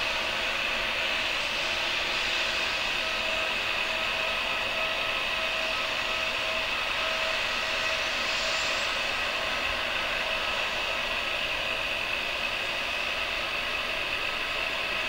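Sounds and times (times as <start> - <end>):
jet turbine hiss and whine: 0.0 - 15.0.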